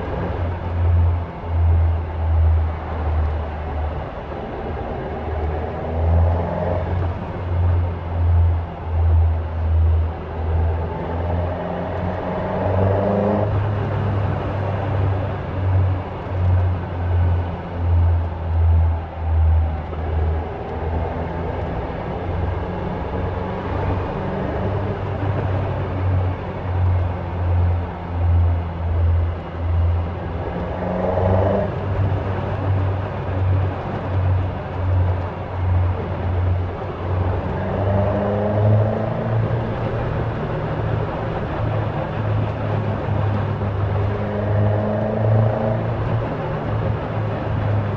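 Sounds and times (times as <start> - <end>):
car engine droning: 0.0 - 47.9.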